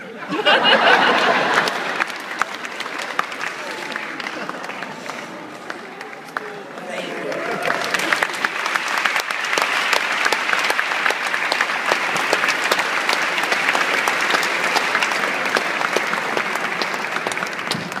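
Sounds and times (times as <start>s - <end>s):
audience applauding: 0.4s - 18.0s.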